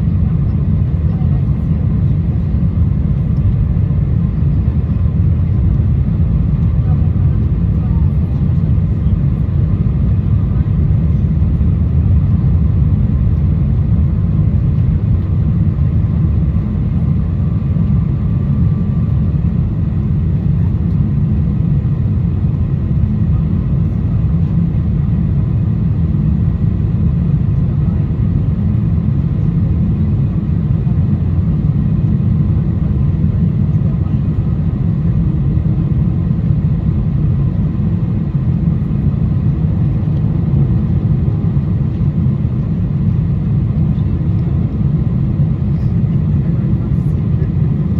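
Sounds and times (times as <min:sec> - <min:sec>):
airplane cabin engine roar: 0:00.0 - 0:47.9.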